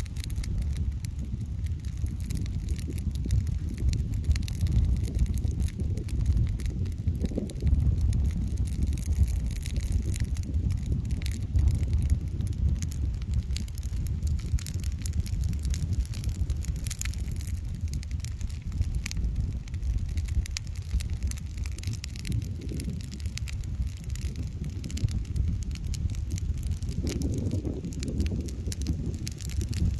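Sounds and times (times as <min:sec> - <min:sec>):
dry leaves crackling in fire: 0:00.0 - 0:29.9
wind rumble on microphone: 0:00.0 - 0:29.9.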